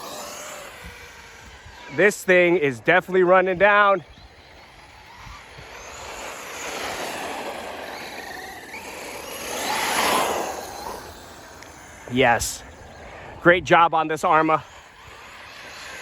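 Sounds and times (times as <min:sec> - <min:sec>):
rc car motor and tyres: 0:00.0 - 0:16.0.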